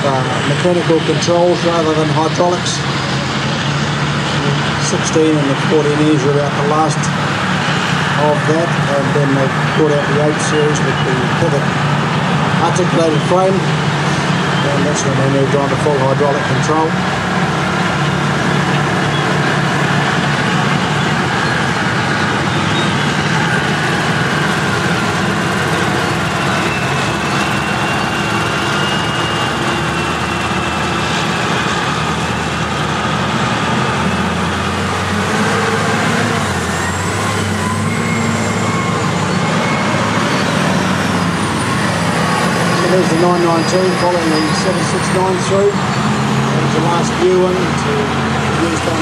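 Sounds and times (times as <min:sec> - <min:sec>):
heavy diesel engines running: 0:00.0 - 0:49.0.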